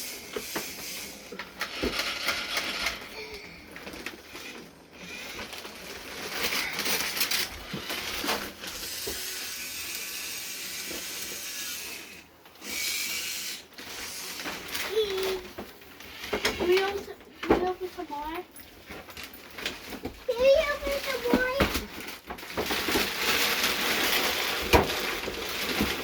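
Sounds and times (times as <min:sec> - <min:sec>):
wrapping paper rustling and tearing: 0:00.0 - 0:26.0.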